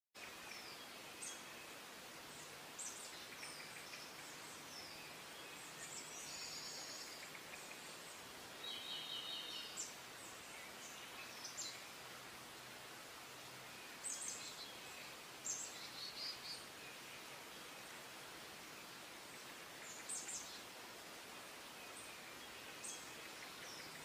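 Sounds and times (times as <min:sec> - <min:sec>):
faint outdoor hiss: 0:00.2 - 0:24.0
songbirds chirping: 0:00.2 - 0:24.0.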